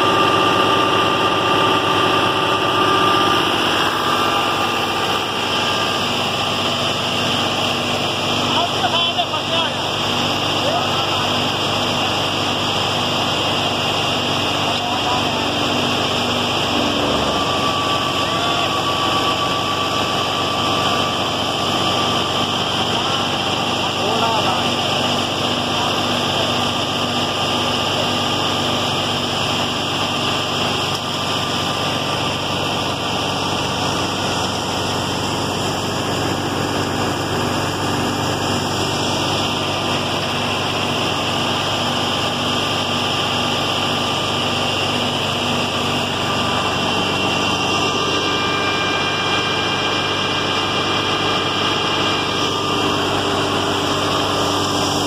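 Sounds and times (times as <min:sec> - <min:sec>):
threshing machine running: 0:00.0 - 0:55.0
tractor diesel engine under load: 0:00.0 - 0:55.0.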